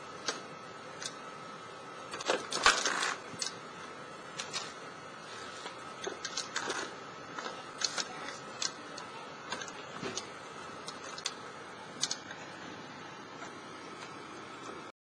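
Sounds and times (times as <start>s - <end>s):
faint hum and hiss: 0.0s - 14.9s.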